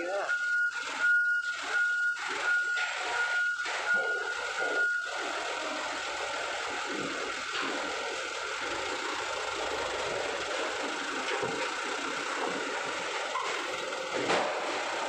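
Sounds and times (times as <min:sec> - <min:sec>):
truck engine: 0:00.0 - 0:15.0
vehicle warning beeper: 0:00.0 - 0:15.0.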